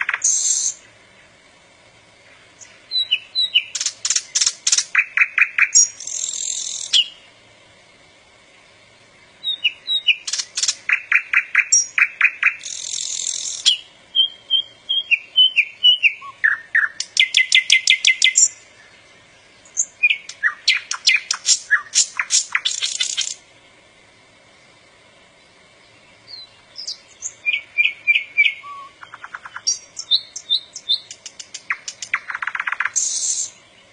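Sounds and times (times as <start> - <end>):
nightingale singing: 0.0 - 1.4, 2.2 - 7.4, 8.5 - 23.5, 24.6 - 33.9.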